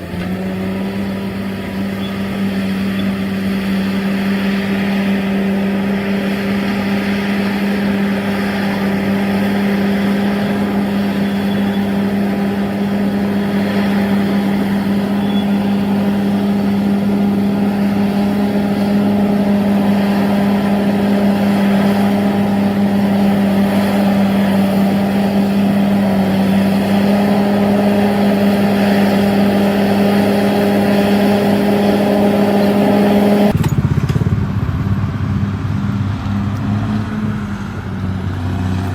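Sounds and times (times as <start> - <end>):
diesel engine running at high revs: 0.0 - 38.9.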